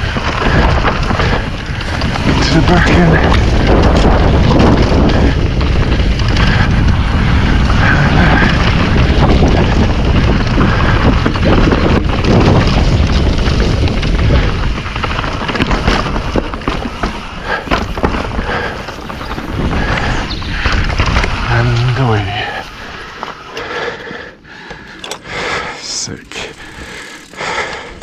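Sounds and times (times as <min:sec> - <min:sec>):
bike clicks and rattles: 0:00.0 - 0:28.0
bike tyres rumbling on trail: 0:00.0 - 0:28.0
wind buffeting microphone: 0:00.0 - 0:28.0.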